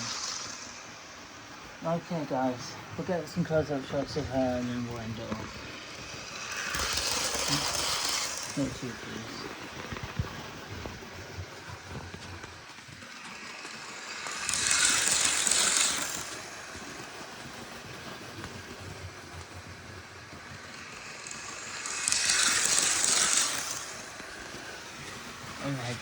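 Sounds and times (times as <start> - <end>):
model train running hum: 0.0 - 26.0
model train wheels rattling on rail: 0.0 - 26.0.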